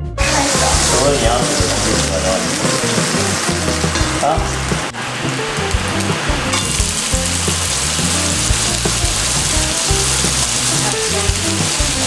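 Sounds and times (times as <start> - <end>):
onion and bacon sizzling in a pot: 0.2 - 12.0.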